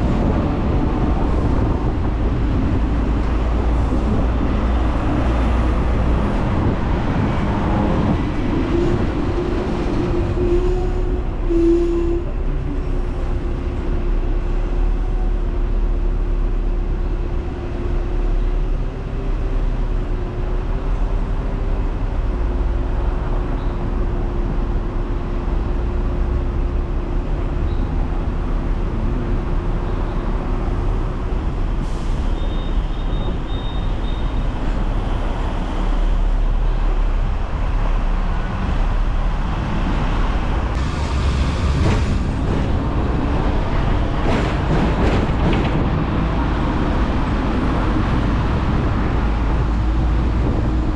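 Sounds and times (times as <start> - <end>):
tram hum: 0.0 - 50.9
tram rumbling: 0.0 - 50.9.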